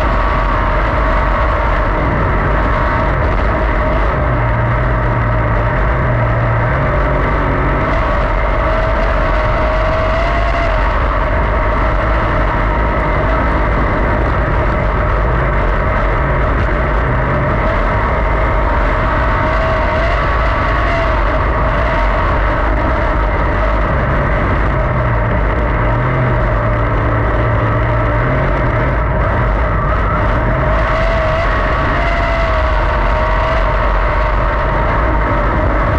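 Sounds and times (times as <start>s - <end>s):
race car engine running hard: 0.0s - 35.9s.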